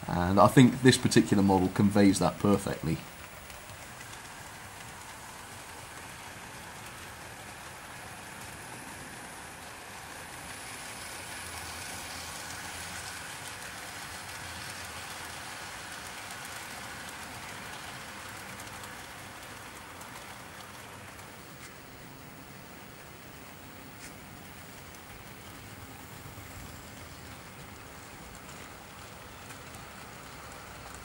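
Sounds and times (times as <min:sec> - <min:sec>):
model train wheels clattering: 0:00.0 - 0:31.0.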